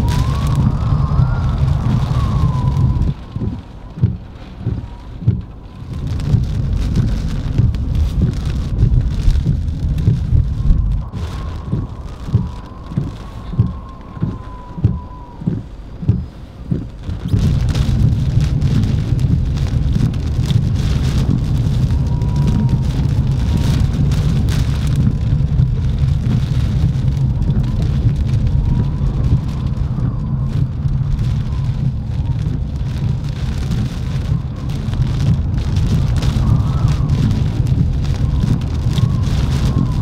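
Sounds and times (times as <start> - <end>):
heavy rain on car glass: 0.0 - 40.0
low car rumble: 0.0 - 40.0.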